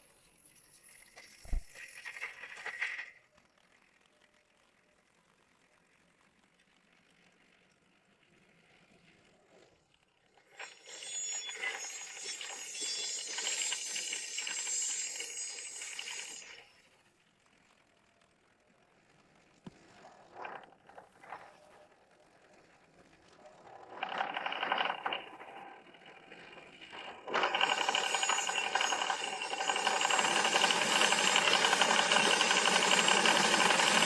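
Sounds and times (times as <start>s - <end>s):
small motor and gears running: 0.0s - 3.8s, 7.0s - 34.0s.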